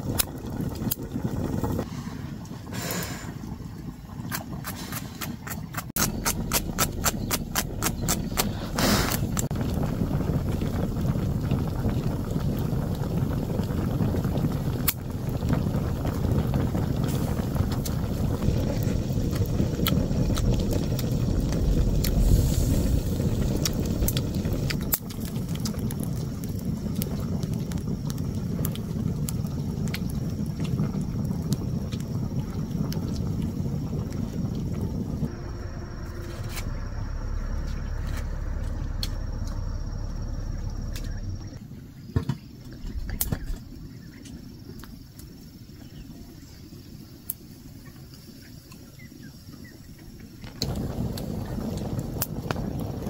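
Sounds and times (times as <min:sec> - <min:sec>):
wind buffeting microphone: 0:00.0 - 0:41.6, 0:49.3 - 0:53.0.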